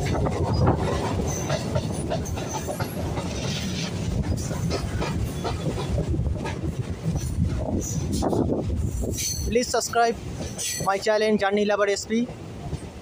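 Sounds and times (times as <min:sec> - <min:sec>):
train clicks and clatter: 0:00.0 - 0:13.0
train wheels rumbling on rails: 0:00.0 - 0:13.0.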